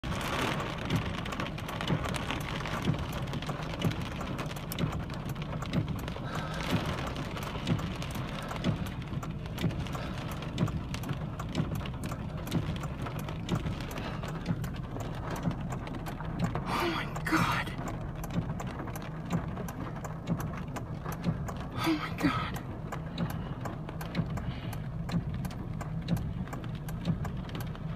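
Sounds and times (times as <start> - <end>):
heavy rain: 0.0 - 27.9.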